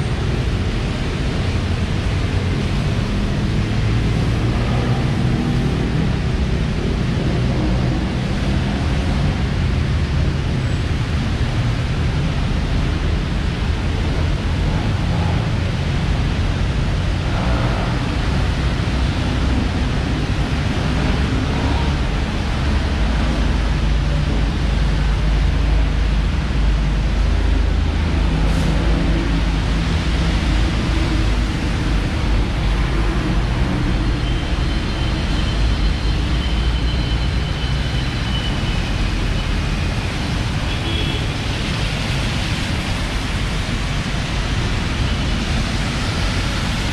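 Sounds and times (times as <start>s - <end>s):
traffic on wet road: 0.0s - 46.9s.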